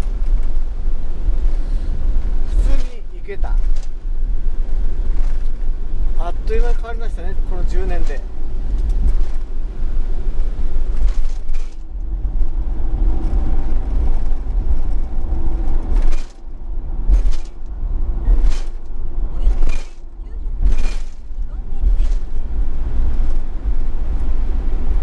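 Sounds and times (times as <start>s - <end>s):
tyres and engine rumbling: 0.0s - 25.0s.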